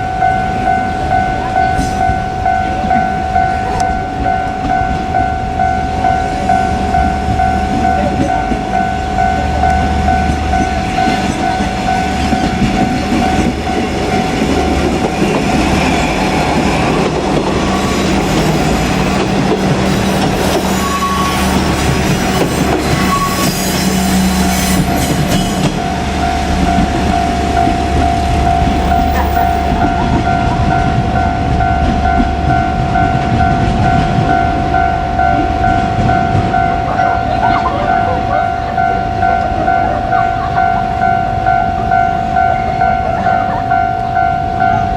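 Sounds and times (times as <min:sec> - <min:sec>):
diesel railcar engines droning: 0:00.0 - 0:44.9
level-crossing warning bell: 0:00.0 - 0:44.9.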